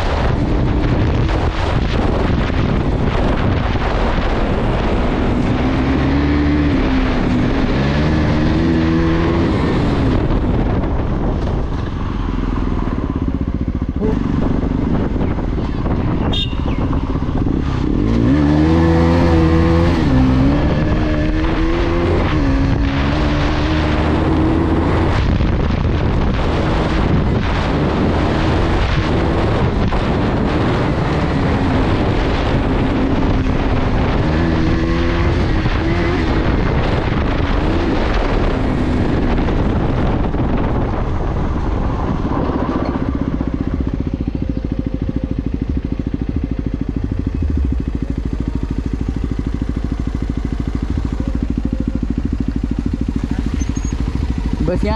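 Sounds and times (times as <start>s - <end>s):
constant rushing noise: 0.0s - 54.9s
motorcycle engine revving: 0.0s - 54.9s.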